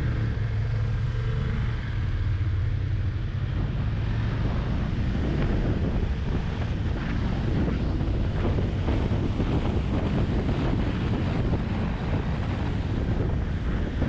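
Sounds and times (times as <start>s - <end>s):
motorcycle engine drone: 0.0s - 14.0s
wind buffeting microphone: 0.0s - 14.0s.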